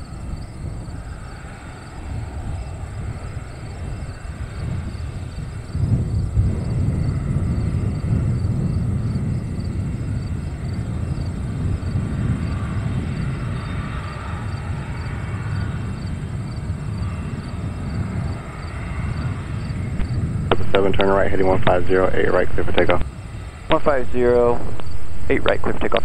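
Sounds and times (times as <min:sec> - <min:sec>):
jet engines idling: 0:00.0 - 0:26.0.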